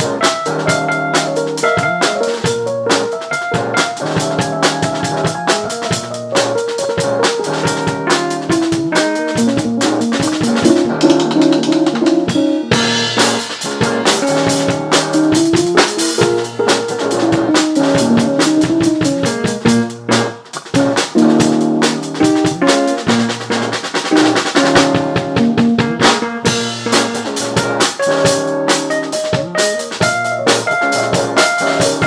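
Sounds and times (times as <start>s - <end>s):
drum kit beat: 0.0s - 32.0s
electric guitar: 0.0s - 32.0s
electric keyboard: 0.0s - 32.0s.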